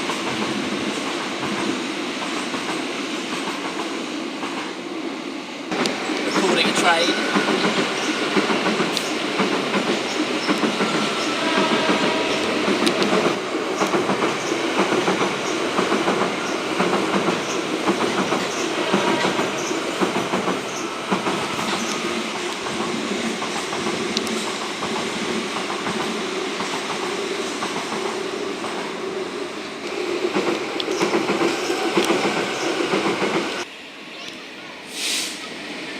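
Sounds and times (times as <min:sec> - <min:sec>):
train rolling rumble: 0:00.0 - 0:35.9.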